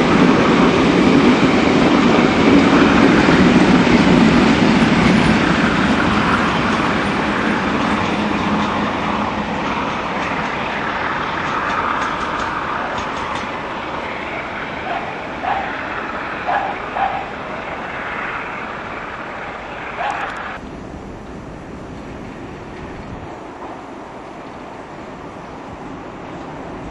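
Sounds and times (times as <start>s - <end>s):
train passing on rails: 0.0s - 26.9s.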